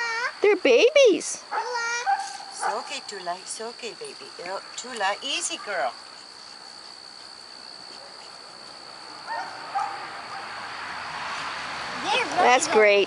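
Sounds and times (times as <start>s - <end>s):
crickets droning: 0.0s - 13.0s.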